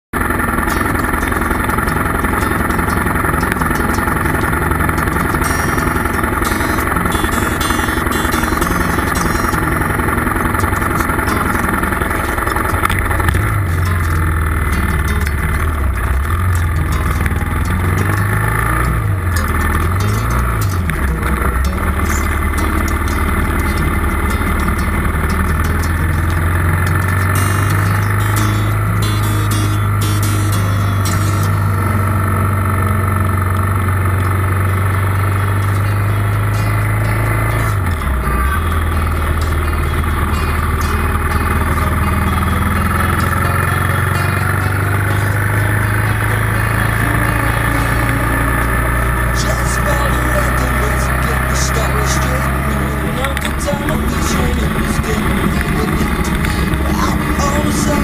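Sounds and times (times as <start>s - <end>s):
motorcycle engine accelerating: 0.1s - 58.0s.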